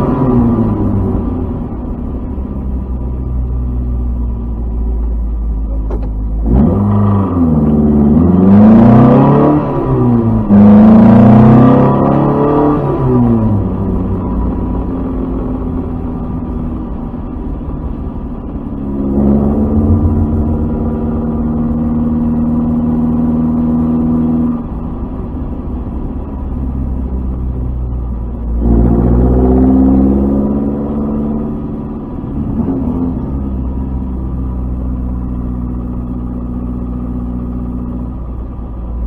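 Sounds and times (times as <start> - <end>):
car engine running at low revs: 0.0 - 39.0.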